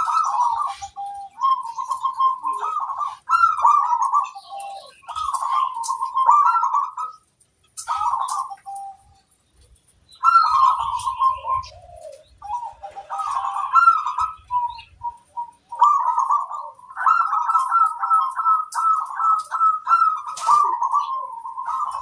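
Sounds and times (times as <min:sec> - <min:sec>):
dove cooing: 0:00.0 - 0:09.3, 0:10.2 - 0:22.0.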